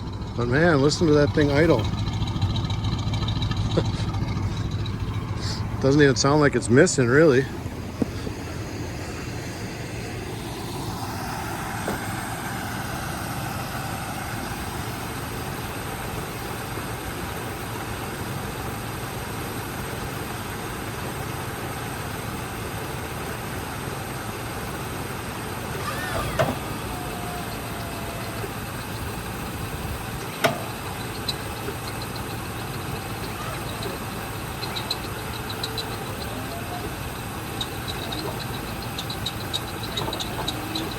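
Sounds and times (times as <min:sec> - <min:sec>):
pickup engine idling: 0:00.0 - 0:40.9.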